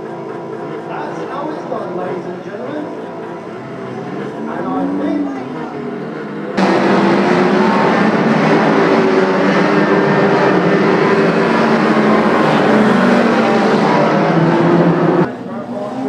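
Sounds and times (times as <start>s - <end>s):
racing car engines at high revs: 0.0s - 16.0s.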